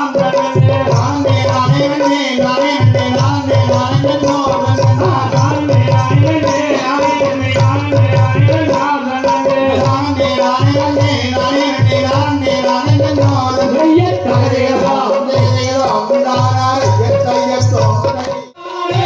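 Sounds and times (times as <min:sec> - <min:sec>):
folk singing: 0:00.0 - 0:19.0.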